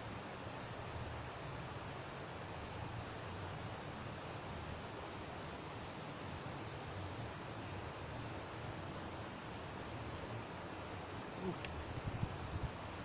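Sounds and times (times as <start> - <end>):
background hiss: 0.0 - 13.0
high-pitched insect trill: 0.0 - 13.0.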